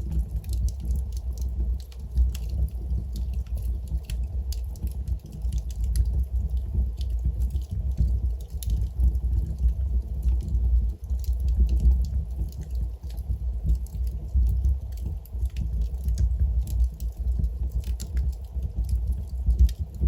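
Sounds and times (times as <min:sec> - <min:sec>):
fire burning with crackles: 0:00.0 - 0:20.0.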